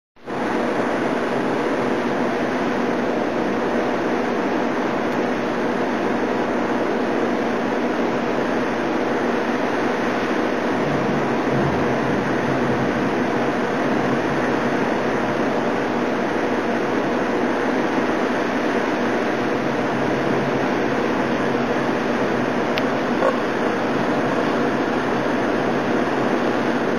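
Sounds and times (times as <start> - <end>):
heavy rain pouring: 0.2 - 26.9
high wind: 0.2 - 26.9.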